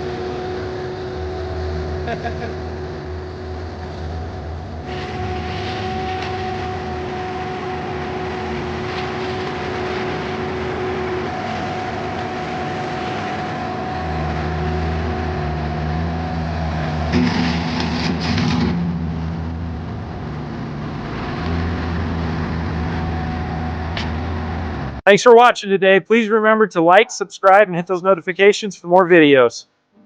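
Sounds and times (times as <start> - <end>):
held mechanical whine: 0.0 - 25.0
skid steer engine drone: 0.0 - 25.0.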